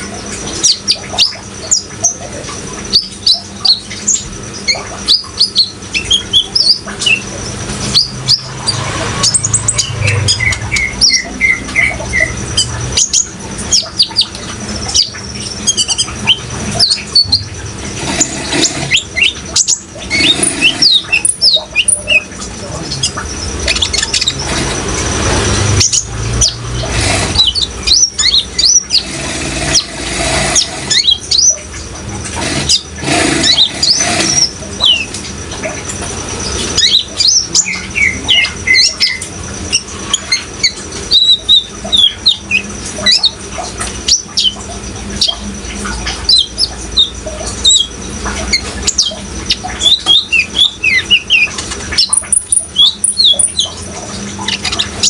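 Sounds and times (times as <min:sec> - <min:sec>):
bird chirps and twitters: 0:00.0 - 0:55.0
running water: 0:00.0 - 0:55.0
water splashing: 0:06.4 - 0:55.0.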